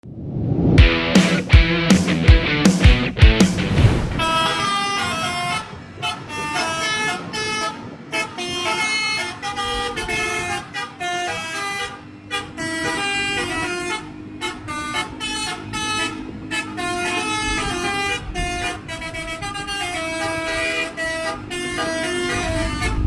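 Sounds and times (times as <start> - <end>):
multi-tone musical bus horn: 4.3 - 23.0.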